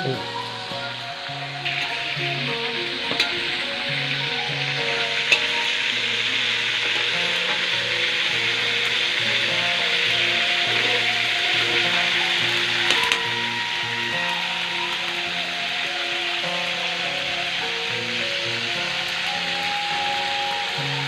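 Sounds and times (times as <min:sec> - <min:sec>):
background music: 0:00.0 - 0:21.0
fish sizzling in hot oil: 0:00.0 - 0:21.0.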